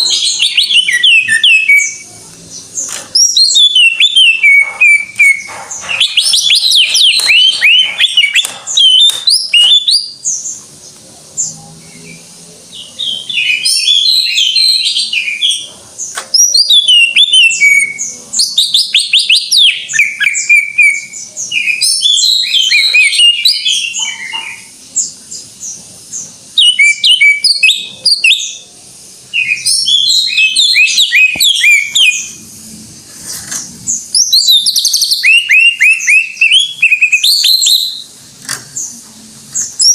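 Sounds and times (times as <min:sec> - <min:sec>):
bird singing whistles and chatter: 0:00.0 - 0:10.6, 0:11.3 - 0:32.4, 0:33.9 - 0:38.2, 0:38.8 - 0:39.9.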